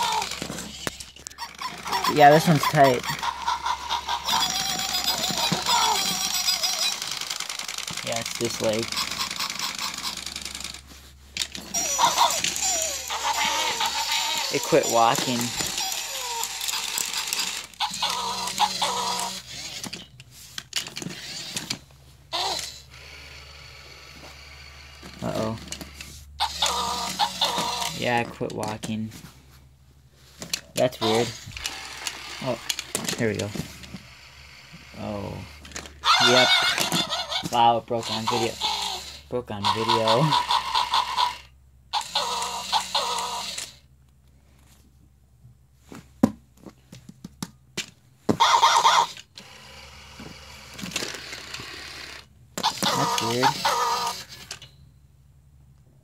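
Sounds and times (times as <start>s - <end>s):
toy electronic sound effects: 0.0s - 10.8s, 11.4s - 20.1s, 21.0s - 28.3s, 30.8s - 43.8s, 48.3s - 54.7s.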